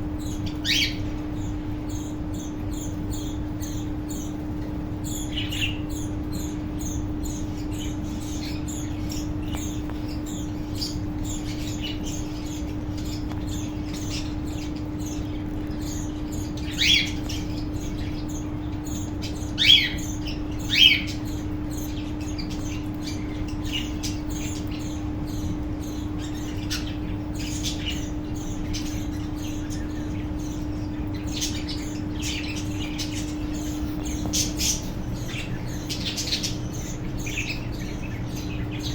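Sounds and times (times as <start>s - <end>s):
birds chattering with high chirps: 0.0s - 38.9s
steady low hum: 0.0s - 38.9s.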